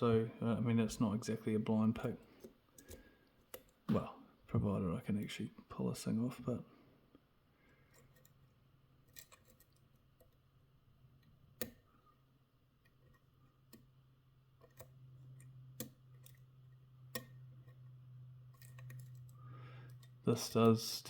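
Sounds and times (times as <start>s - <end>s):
faint low steady hum: 0.0s - 21.0s.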